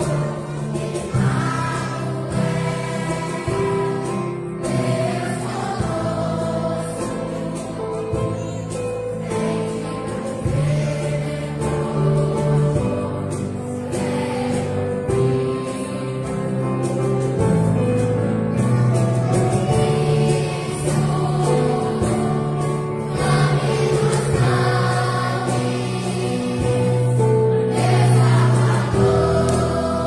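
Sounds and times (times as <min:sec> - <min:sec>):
children's choir singing: 0:00.0 - 0:17.8, 0:18.5 - 0:30.0
band accompaniment: 0:00.0 - 0:30.0.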